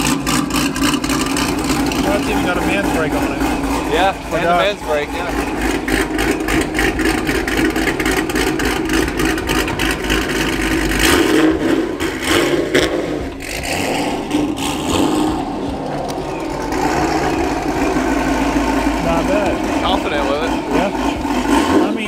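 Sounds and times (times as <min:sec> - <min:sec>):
car engine idling: 0:00.0 - 0:22.0
car pulling away: 0:00.0 - 0:22.0.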